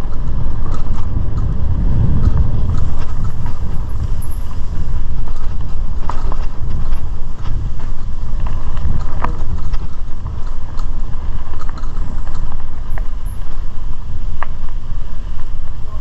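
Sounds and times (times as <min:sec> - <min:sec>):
bike clicks and rattles: 0:00.0 - 0:16.0
bike tyres on dirt: 0:00.0 - 0:16.0
wind on microphone: 0:00.0 - 0:16.0.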